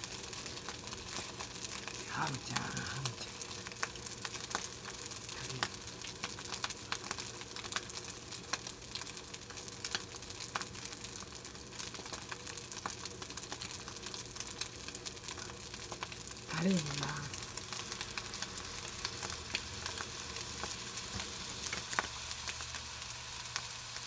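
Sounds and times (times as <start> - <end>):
oil crackling in a frying pan: 0.0 - 24.0.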